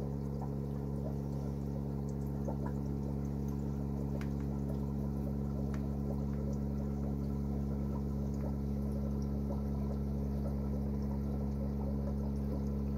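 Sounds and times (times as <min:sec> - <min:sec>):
aquarium pump hum: 0:00.0 - 0:12.9
water bubbling and trickling: 0:00.0 - 0:12.9.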